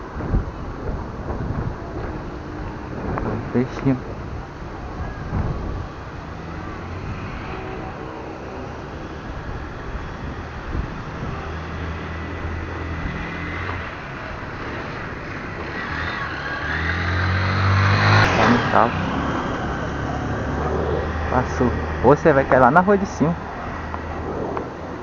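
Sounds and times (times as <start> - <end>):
vehicle approaching: 0.0 - 25.0
vehicle engine humming: 0.0 - 25.0.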